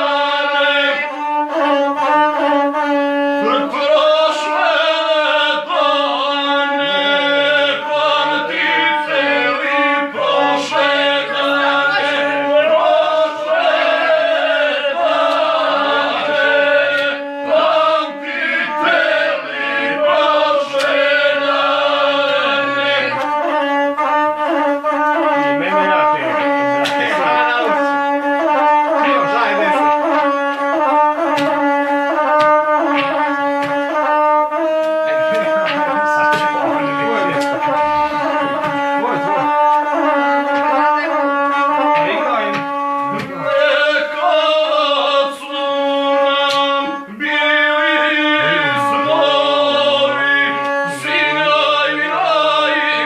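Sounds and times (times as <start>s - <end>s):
bowed one-string fiddle melody: 0.0s - 53.0s
man singing: 0.0s - 53.0s.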